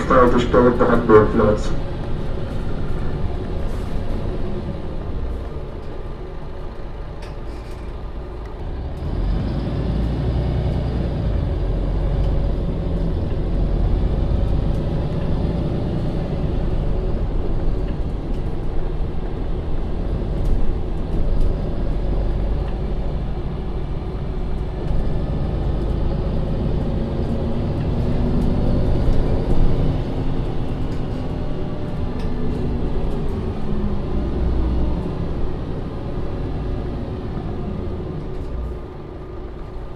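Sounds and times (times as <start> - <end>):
bus diesel engine under load: 0.0 - 39.9.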